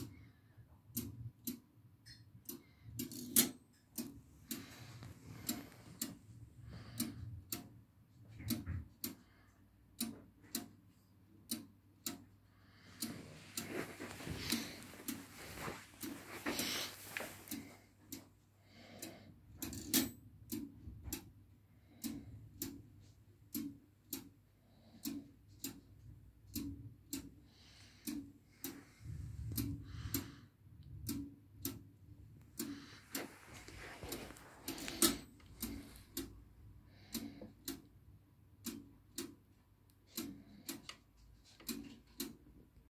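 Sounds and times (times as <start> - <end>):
clock ticking: 0.0 - 42.9.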